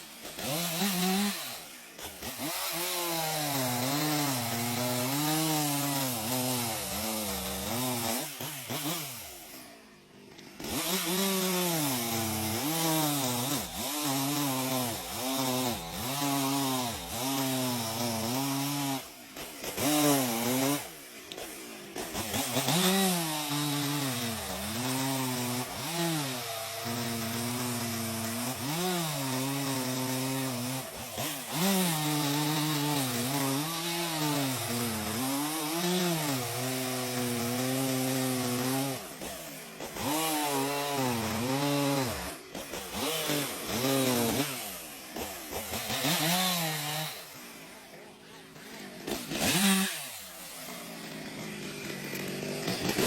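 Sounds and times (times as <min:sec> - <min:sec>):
chainsaw cutting tree trunk: 0:00.0 - 0:53.0.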